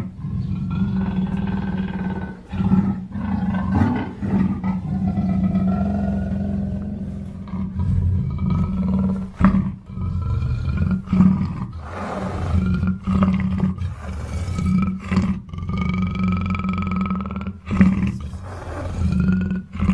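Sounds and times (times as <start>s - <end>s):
big cat growling and roaring: 0.0s - 19.9s.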